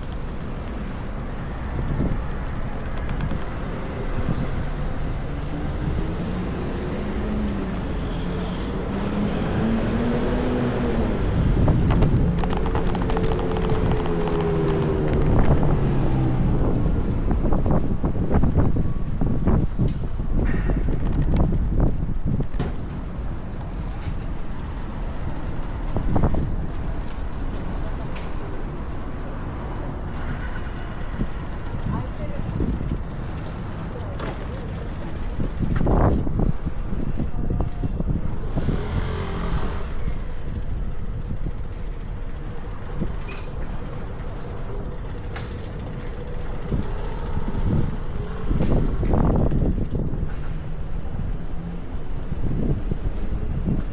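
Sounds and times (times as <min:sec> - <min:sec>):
street ambience: 0:00.0 - 0:53.9
wind buffeting microphone: 0:00.0 - 0:53.9.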